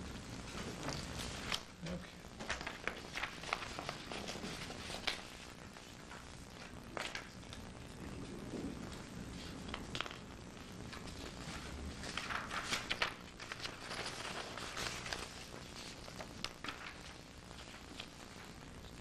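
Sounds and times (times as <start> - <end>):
paper rustling and clicks: 0.5 - 7.6, 8.9 - 18.6.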